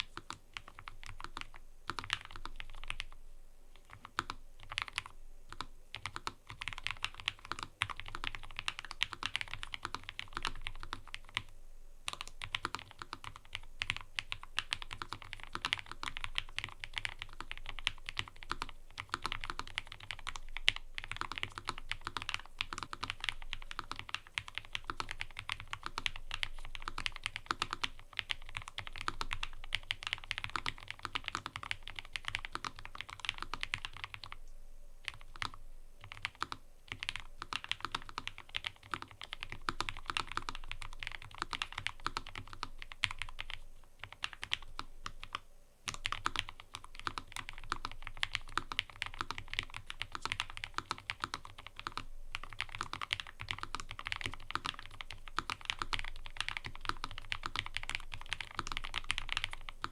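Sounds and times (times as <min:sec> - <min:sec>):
fast typing on mechanical keyboard: 0:00.0 - 0:03.2, 0:03.8 - 0:11.5, 0:12.1 - 0:34.4, 0:35.0 - 0:59.9.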